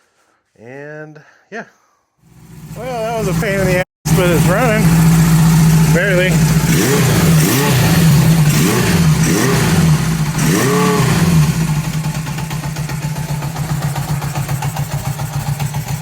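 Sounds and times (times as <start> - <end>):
motorcycle engine idling: 2.2 - 16.0
motorcycle engine revving: 2.2 - 16.0.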